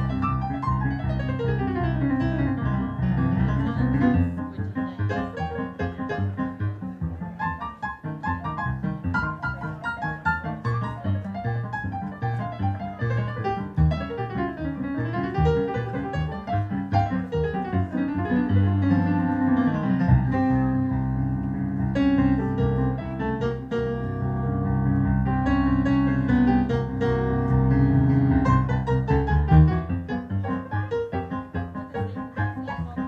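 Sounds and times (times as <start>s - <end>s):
solo piano through a speaker: 0.0s - 33.0s.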